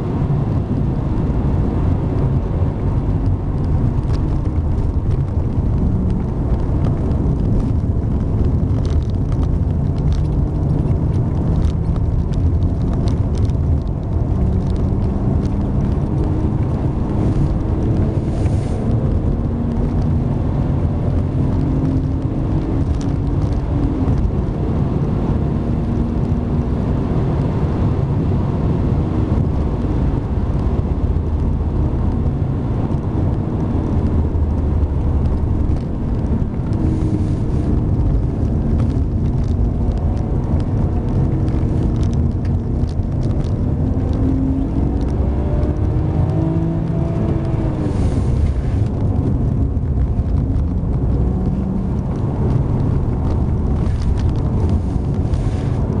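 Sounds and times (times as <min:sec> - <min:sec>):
car engine revving: 0:00.0 - 0:56.0
road and tyre noise: 0:00.0 - 0:56.0.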